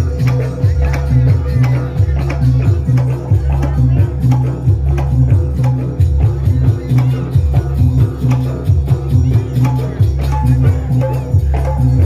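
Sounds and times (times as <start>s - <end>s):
deep bass notes: 0.0s - 12.0s
steady drum beat: 0.0s - 12.0s.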